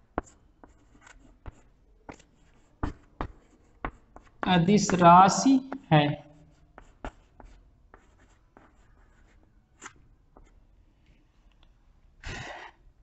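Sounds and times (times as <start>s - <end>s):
chalk scratching on chalkboard: 0.1s - 10.6s.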